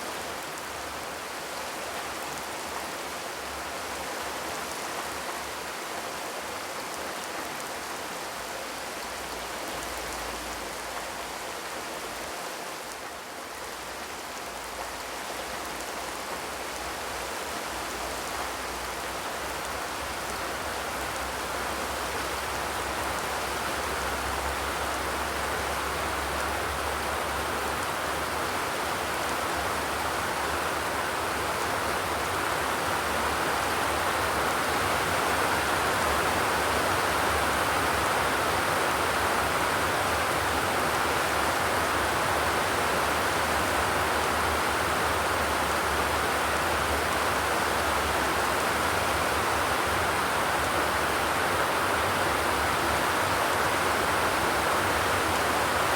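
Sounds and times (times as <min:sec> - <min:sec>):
heavy rainfall: 0:00.0 - 0:55.9.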